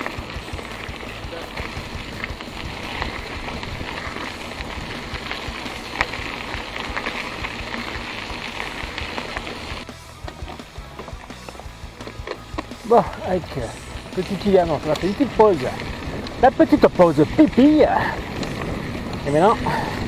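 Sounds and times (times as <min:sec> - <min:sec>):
wind rumble on microphone: 0:00.0 - 0:09.9, 0:13.4 - 0:20.0
bike clicks and rattles: 0:00.0 - 0:20.0
bike tyres rolling on gravel: 0:00.0 - 0:20.0.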